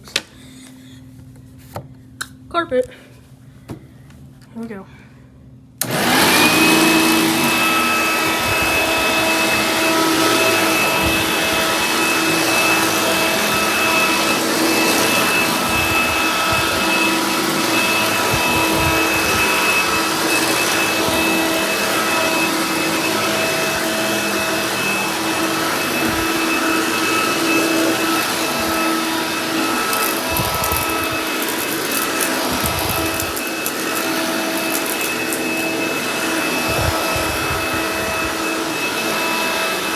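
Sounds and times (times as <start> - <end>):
vacuum cleaner motor whine: 5.8 - 39.9.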